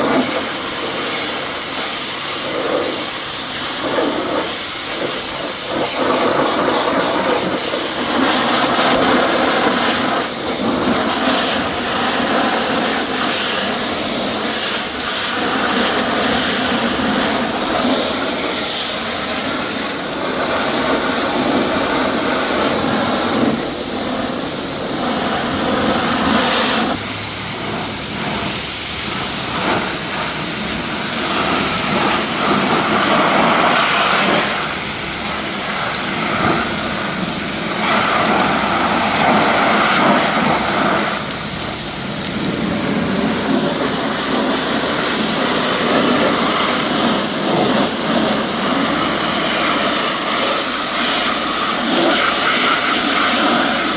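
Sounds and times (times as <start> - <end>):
pressure washer spraying car: 0.0 - 53.9.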